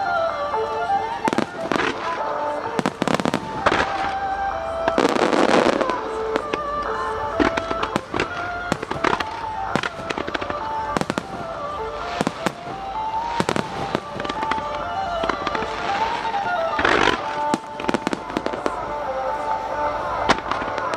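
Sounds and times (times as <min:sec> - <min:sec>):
fireworks bangs: 0:00.0 - 0:20.9
music melody: 0:00.0 - 0:20.9.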